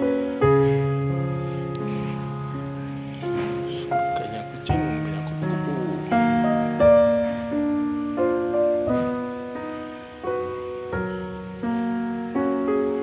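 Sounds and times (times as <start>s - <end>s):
piano notes and chords: 0.0s - 13.0s.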